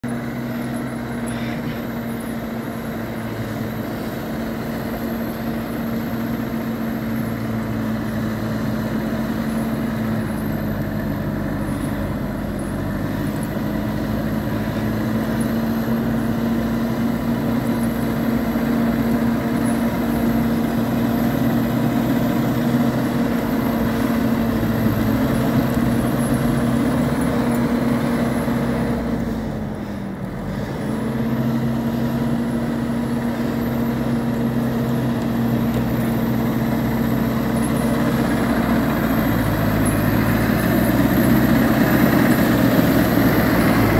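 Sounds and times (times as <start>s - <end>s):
tractor engine under heavy load: 0.0s - 43.9s.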